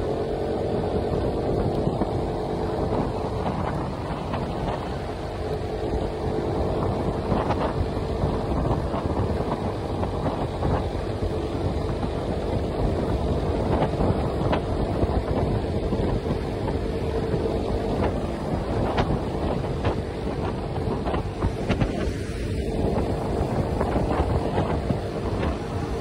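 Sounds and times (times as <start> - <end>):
motorcycle engine cruising: 0.0 - 26.0
wind buffeting microphone: 0.0 - 26.0.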